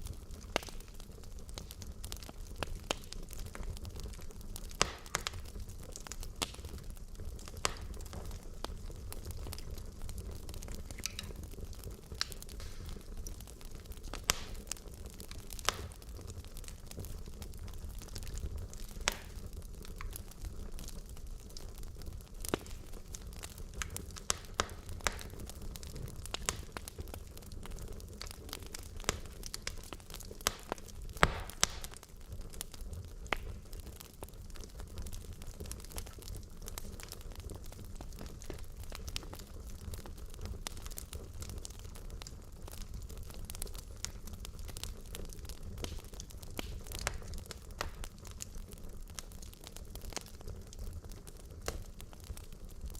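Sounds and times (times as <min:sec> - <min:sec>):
rumble of flames: 0:00.0 - 0:52.9
wood fire crackles and pops: 0:00.0 - 0:52.9.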